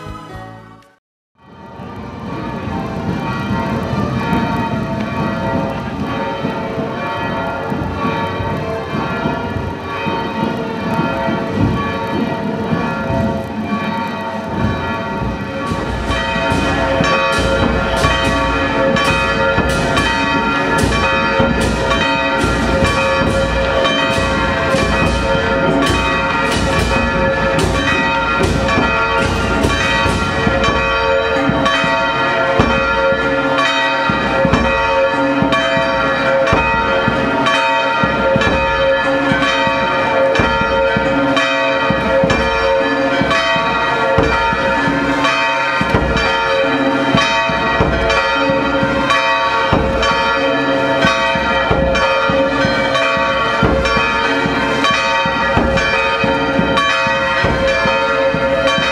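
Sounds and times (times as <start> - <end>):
church bells pealing: 0.0 - 58.9.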